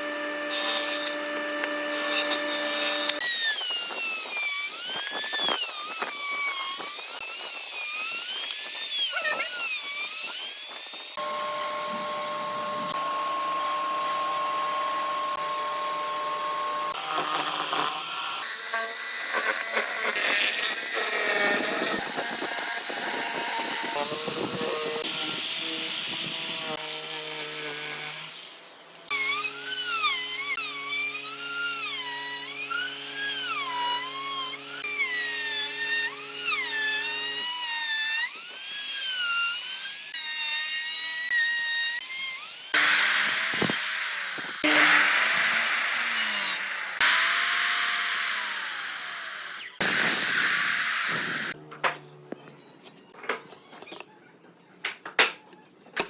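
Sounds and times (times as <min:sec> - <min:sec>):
power tools drilling wood: 0:00.0 - 0:52.1.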